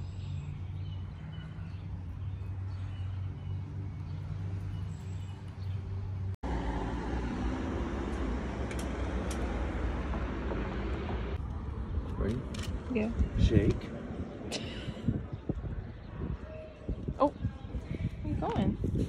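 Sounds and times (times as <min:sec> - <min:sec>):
road traffic rushing: 0:00.0 - 0:16.4.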